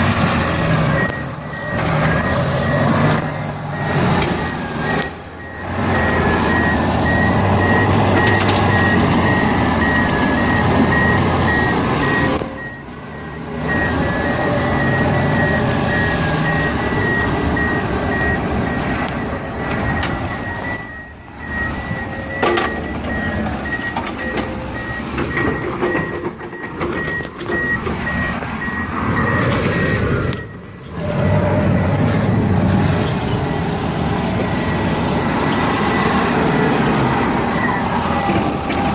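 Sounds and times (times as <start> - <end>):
heavy machinery diesel engines: 0.0 - 38.9
reversing alarm beeping: 0.3 - 38.9.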